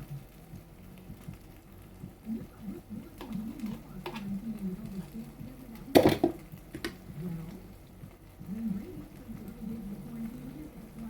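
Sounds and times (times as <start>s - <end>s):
faint murmuring voices: 2.0s - 11.0s.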